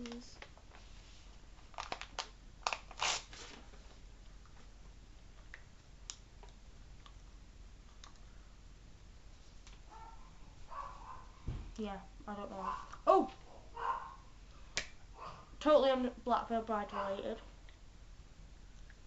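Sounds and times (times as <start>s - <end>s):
faint steady low hum: 0.0s - 19.0s.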